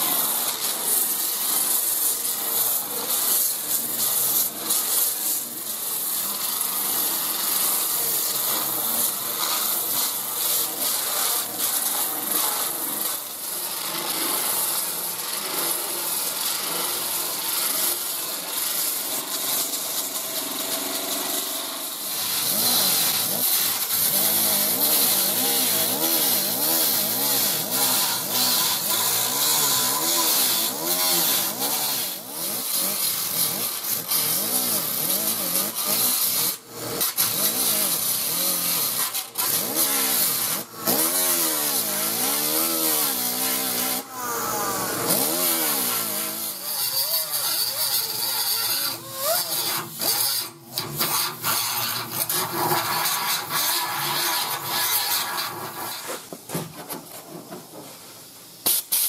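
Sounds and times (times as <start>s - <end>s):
die grinder whine: 0.0s - 56.4s
sander grinding welds: 0.0s - 59.0s.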